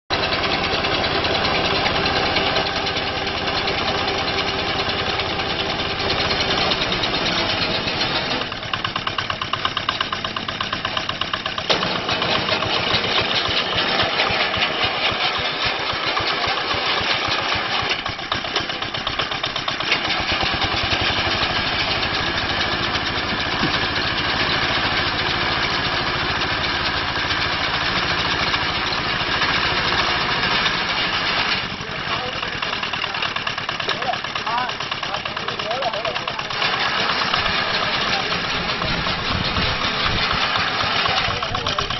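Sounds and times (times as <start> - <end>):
harvester engine running: 0.1 - 41.9.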